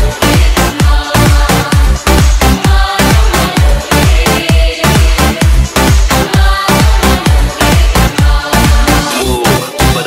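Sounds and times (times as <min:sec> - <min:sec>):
heavy deep kick drum: 0:00.0 - 0:09.2
electronic dance music: 0:00.0 - 0:10.0.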